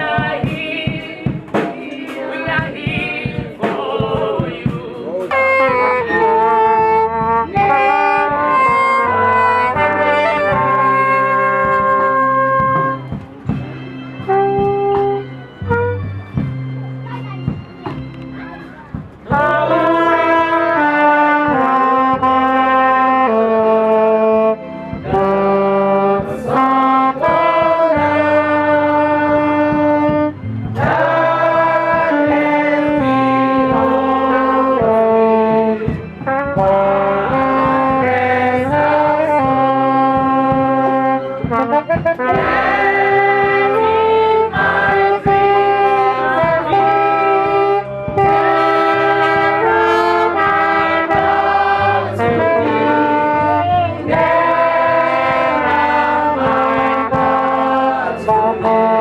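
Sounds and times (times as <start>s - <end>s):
horns playing held chords: 0.0s - 59.0s.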